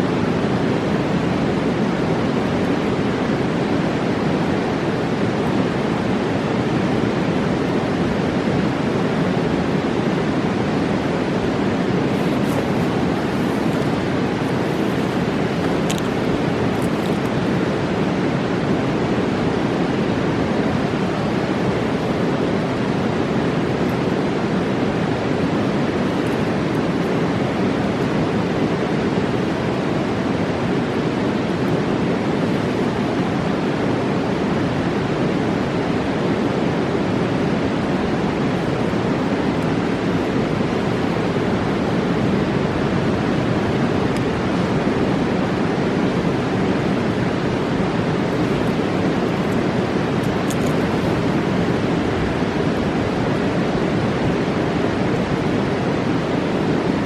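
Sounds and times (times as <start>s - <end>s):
river roaring: 0.0s - 57.0s.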